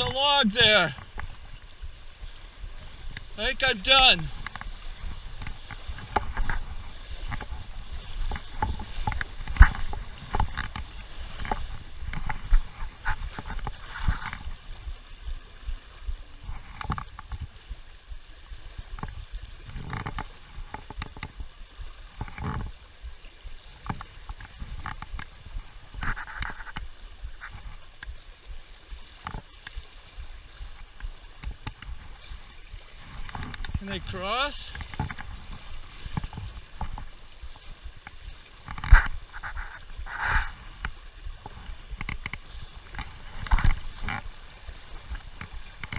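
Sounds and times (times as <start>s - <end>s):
splashy knocks and clatter: 0.0s - 2.0s, 2.7s - 15.8s, 16.4s - 17.9s, 18.5s - 45.9s
river water running: 0.0s - 45.9s
wind rumble on microphone: 4.2s - 45.9s.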